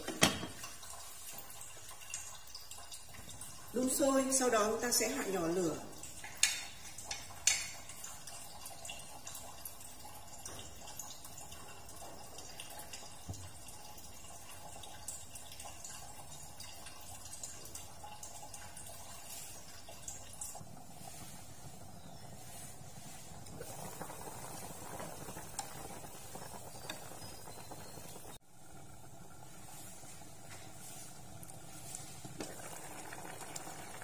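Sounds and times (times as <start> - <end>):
pot simmering bubbling: 0.0 - 34.0.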